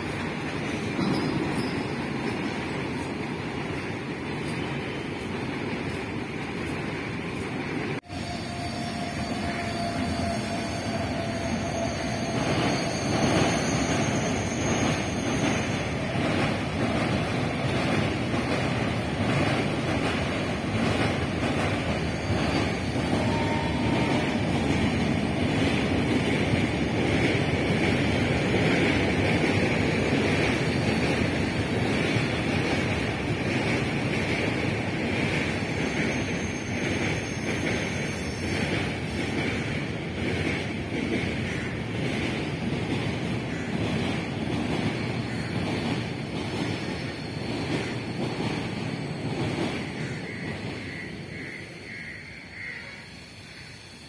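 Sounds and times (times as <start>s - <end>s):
wheels clattering on rails: 0.0s - 8.0s, 11.2s - 51.0s
train rumbling past: 0.0s - 54.0s.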